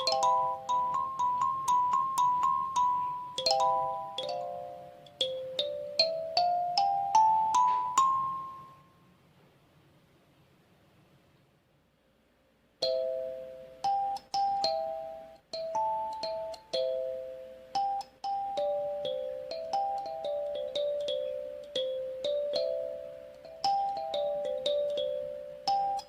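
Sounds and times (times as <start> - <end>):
kalimba slow melody: 0.0 - 8.8, 12.8 - 26.0.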